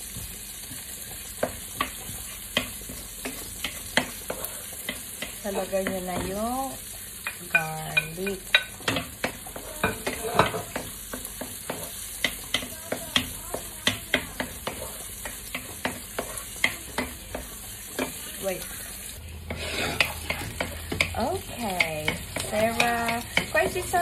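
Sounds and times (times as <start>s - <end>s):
garlic sizzling in oil: 0.0s - 24.0s
wooden utensil scraping a wok: 0.1s - 24.0s.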